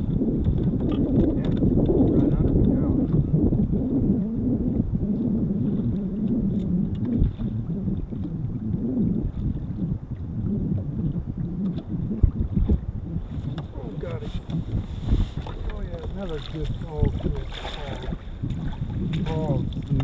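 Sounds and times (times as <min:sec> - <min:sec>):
water lapping against boat hull: 0:00.0 - 0:20.0
wind on microphone: 0:00.0 - 0:20.0.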